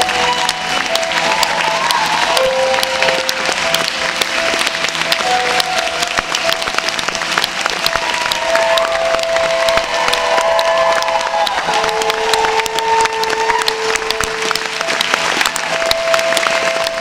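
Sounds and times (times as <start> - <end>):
crowd applauding: 0.0 - 17.0
music with long held notes: 0.0 - 17.0.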